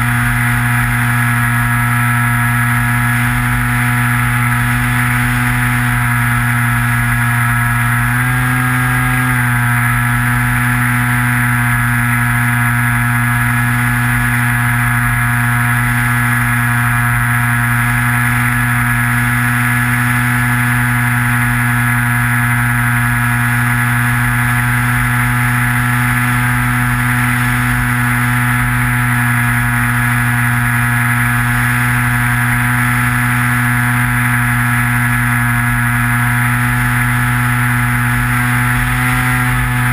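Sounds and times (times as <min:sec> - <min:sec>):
model plane motor and propeller whine: 0:00.0 - 0:39.9.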